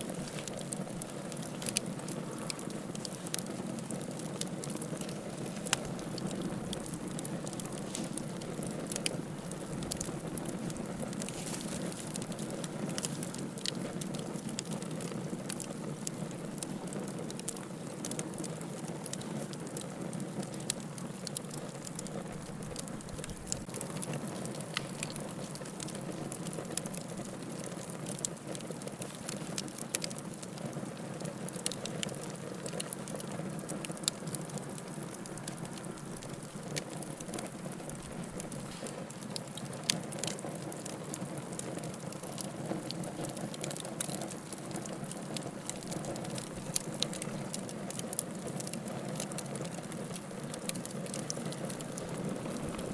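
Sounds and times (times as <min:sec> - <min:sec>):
wood fire rushing: 0:00.0 - 0:19.9, 0:20.7 - 0:30.0, 0:33.8 - 0:52.9
firewood crackling and popping: 0:00.0 - 0:52.9.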